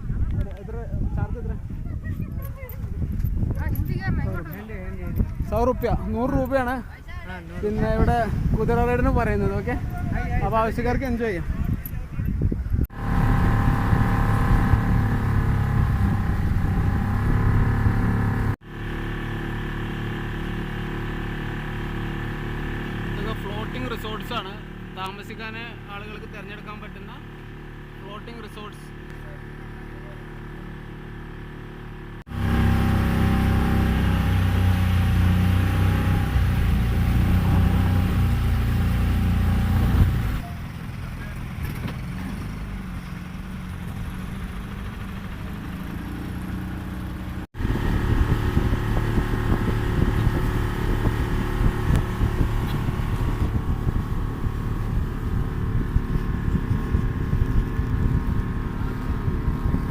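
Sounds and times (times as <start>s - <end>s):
motorboat engine running: 0.0s - 59.9s.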